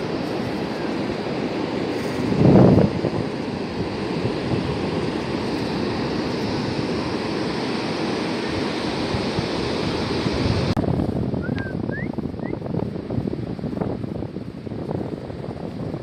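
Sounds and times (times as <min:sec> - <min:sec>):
surf rushing: 0:00.0 - 0:16.0
wind noise on microphone: 0:00.0 - 0:16.0.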